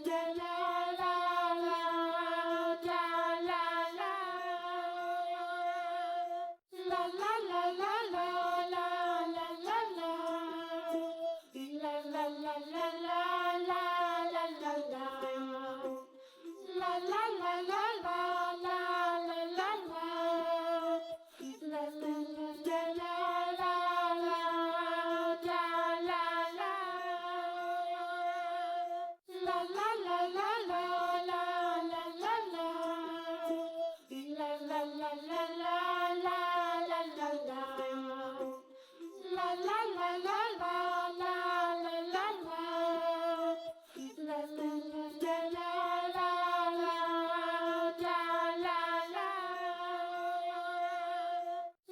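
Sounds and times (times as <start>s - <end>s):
child-like voice singing: 0.0s - 51.9s.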